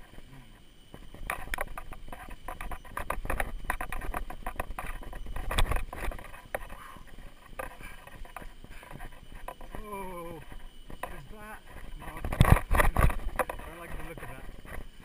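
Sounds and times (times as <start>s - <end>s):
tyre crunching on dirt trail: 0.0s - 15.0s.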